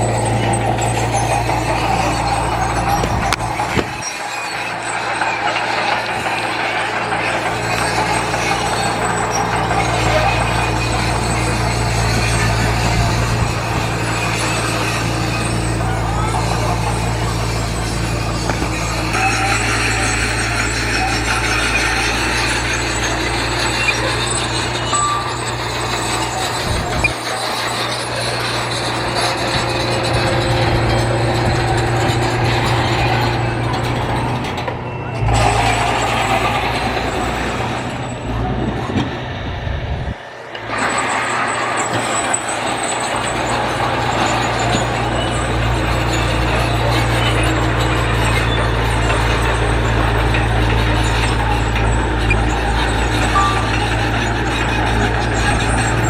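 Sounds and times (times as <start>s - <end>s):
clatter of working machines: 0.0s - 56.0s
diesel machinery engine running: 0.0s - 56.0s.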